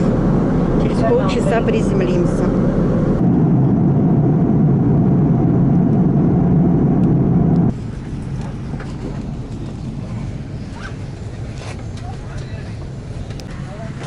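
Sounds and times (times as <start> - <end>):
airliner cabin roar in flight: 0.0 - 14.0
quiet cabin hum: 0.0 - 14.0.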